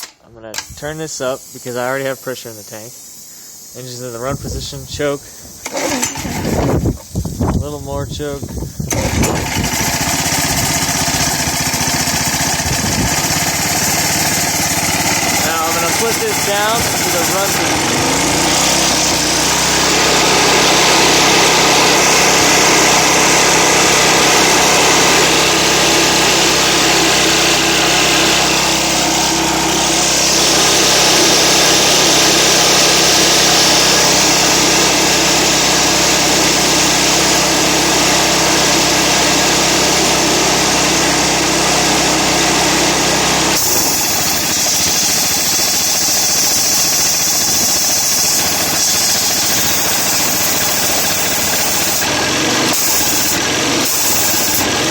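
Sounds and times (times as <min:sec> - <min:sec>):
engine-driven air compressor running: 0:00.0 - 0:54.9.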